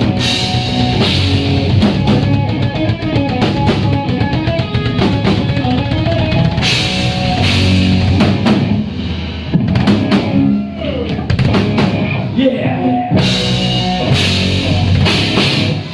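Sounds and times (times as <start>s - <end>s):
live rock band: 0.0s - 15.9s.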